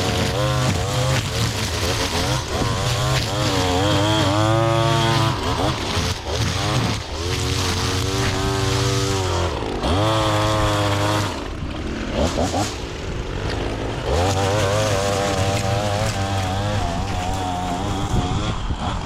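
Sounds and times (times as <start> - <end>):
small petrol engine revving: 0.0 - 19.0.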